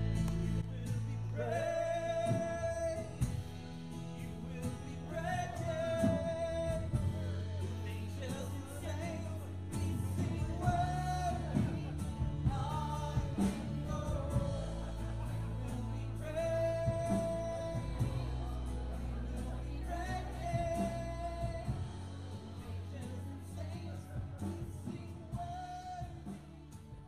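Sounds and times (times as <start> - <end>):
acoustic guitar: 0.0 - 27.0
drums: 0.0 - 27.0
electric guitar: 0.0 - 27.0
people singing into microphones: 4.6 - 26.7.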